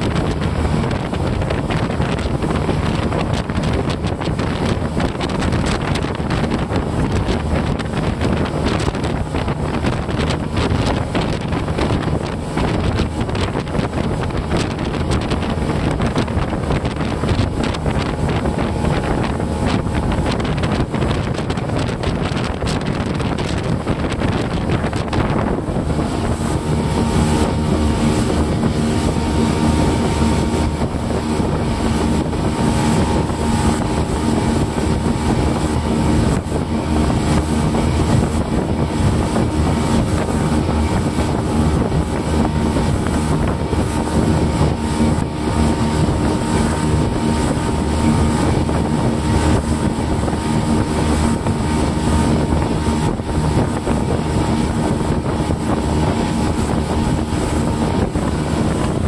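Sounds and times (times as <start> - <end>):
boat engine running: 0.0 - 59.0
rush of wind and water: 0.0 - 59.0.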